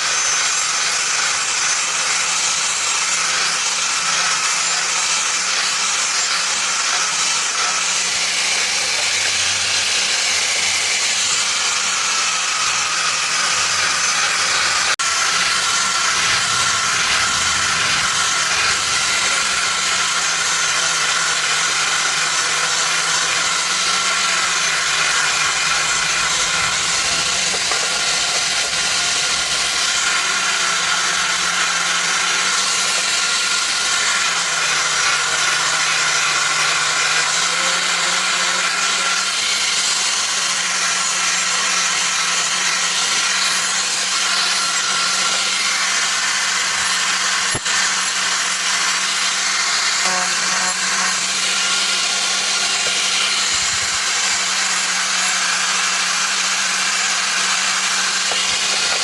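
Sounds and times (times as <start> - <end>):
electric grinder on steel: 0.0 - 59.0.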